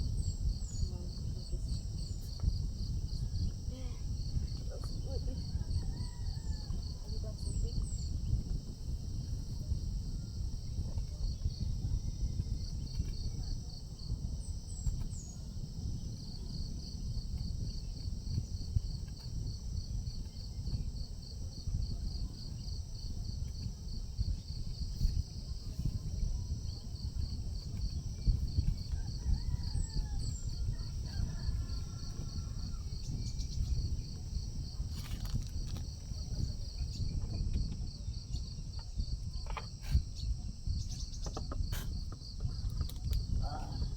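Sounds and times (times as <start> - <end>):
high insect drone: 0.0 - 43.9
insects chirping: 0.0 - 43.9
wind rumble on microphone: 0.0 - 43.9.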